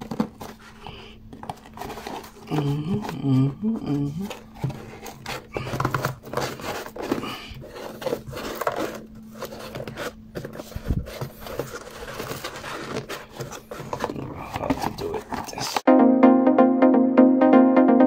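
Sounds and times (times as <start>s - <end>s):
hands scraping cardboard box: 0.0s - 3.3s, 4.0s - 15.8s.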